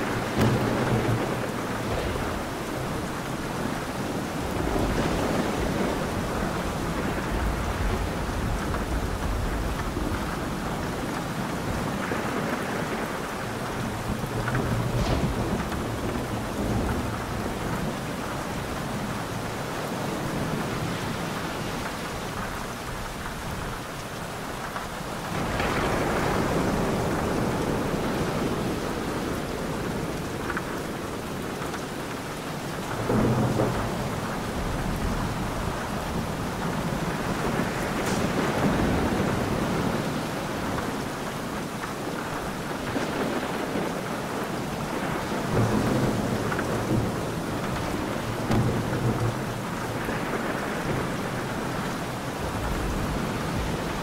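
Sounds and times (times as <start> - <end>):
rolling thunder: 0.0 - 23.8, 24.9 - 31.5, 32.8 - 54.0
heavy rain: 0.0 - 54.0.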